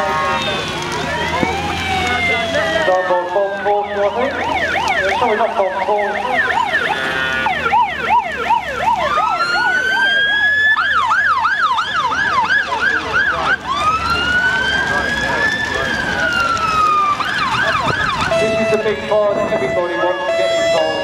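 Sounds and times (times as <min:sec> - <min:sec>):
fire engine sirens: 0:00.0 - 0:21.0.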